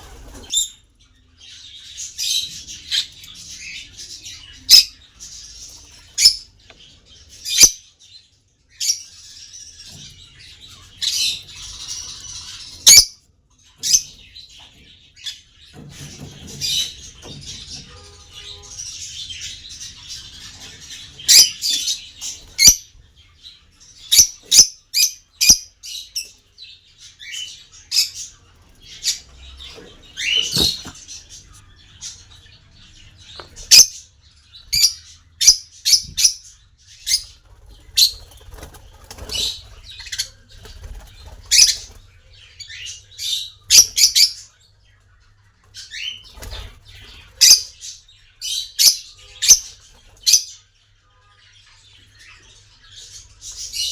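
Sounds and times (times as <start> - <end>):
parrots chirping and squawking: 0.0 - 8.1, 8.7 - 53.9.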